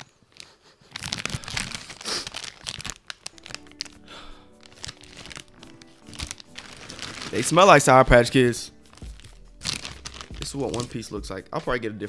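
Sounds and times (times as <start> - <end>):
plastic snack bag crinkling: 0.0 - 11.2.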